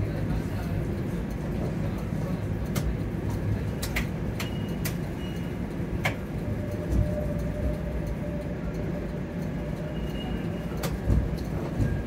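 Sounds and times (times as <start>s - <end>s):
streetcar rumble: 0.0s - 12.0s.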